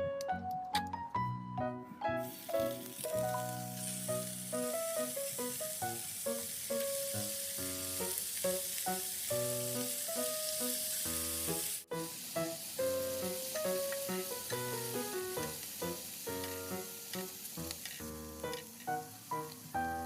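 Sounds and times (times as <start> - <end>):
plucked background music: 0.0 - 20.0
food sizzling in a frying pan: 2.2 - 20.0.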